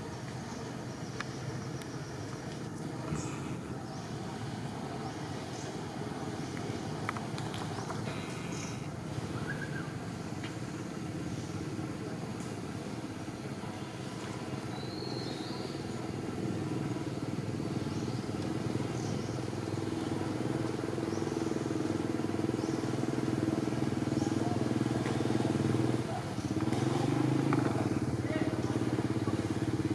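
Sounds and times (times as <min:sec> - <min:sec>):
vehicle engine droning: 0:00.0 - 0:14.6, 0:15.6 - 0:29.9.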